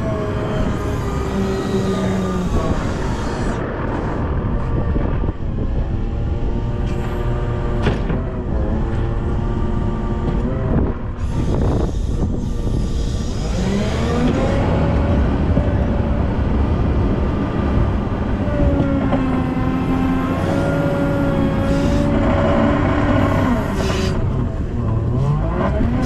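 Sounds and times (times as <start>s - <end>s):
diesel engine revving: 0.0s - 26.0s
steady whine: 0.0s - 26.0s.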